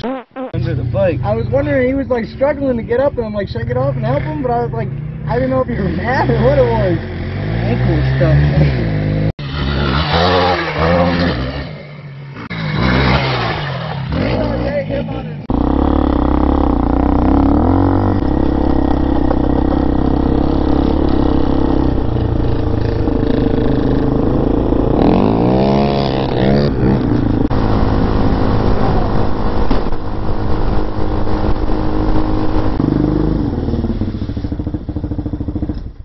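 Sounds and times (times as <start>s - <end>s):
motorcycle engine running: 0.7s - 36.0s.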